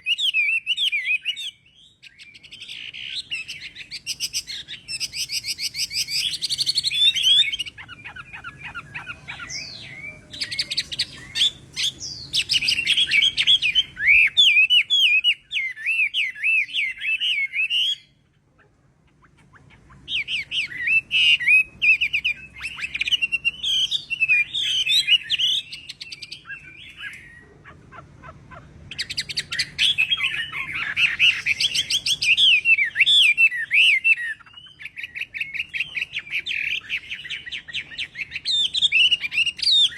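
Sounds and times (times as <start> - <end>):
bird singing whistled phrases: 0.0 - 18.2, 20.1 - 27.4, 28.9 - 39.9.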